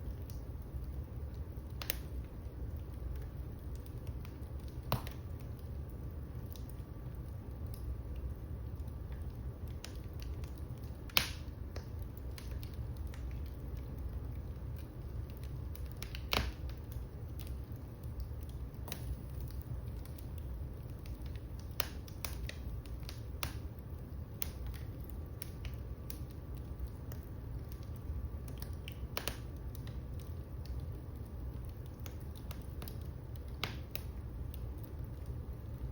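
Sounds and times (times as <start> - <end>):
fireplace fire crackling: 0.0 - 35.9
sharp pops of fire: 1.6 - 2.2, 3.1 - 5.6, 9.1 - 35.3.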